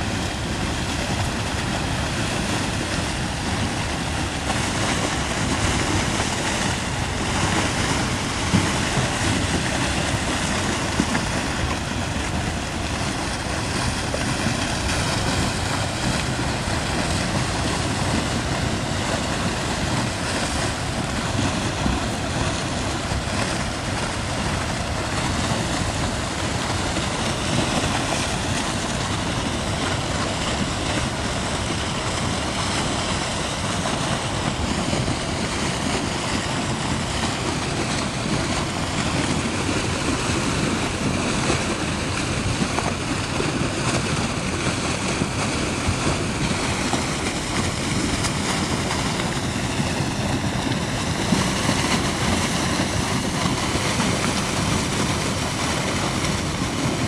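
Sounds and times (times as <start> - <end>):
mud and water rushing: 0.0 - 57.0.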